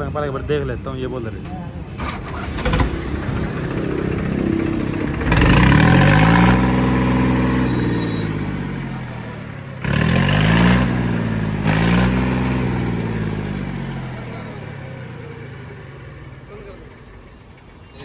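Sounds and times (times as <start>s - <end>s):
tractor diesel engine revving: 1.8s - 17.7s.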